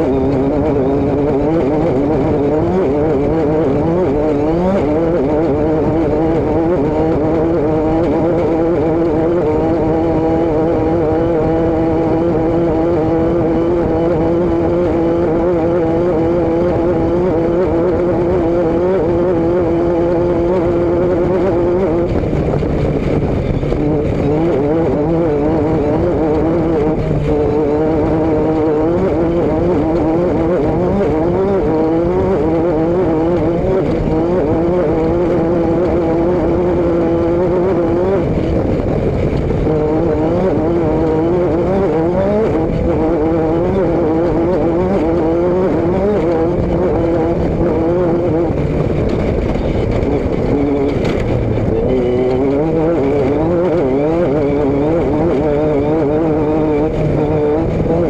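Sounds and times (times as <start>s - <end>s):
vehicle engine and exhaust running: 0.0s - 58.0s.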